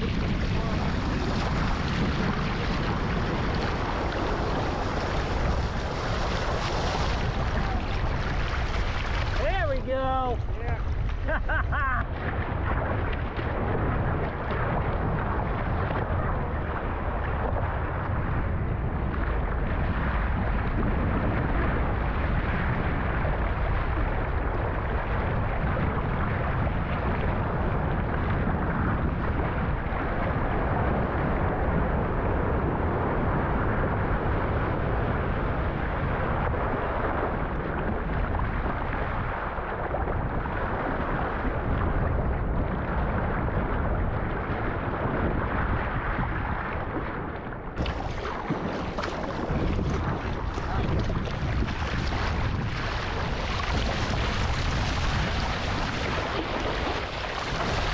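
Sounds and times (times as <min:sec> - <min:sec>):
ocean water and surf: 0:00.0 - 0:57.9
wind buffeting microphone: 0:00.0 - 0:57.9.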